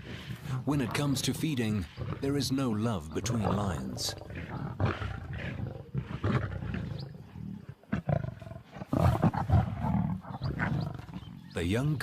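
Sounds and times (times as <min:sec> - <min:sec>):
lions snarling and roaring: 0:00.0 - 0:12.0.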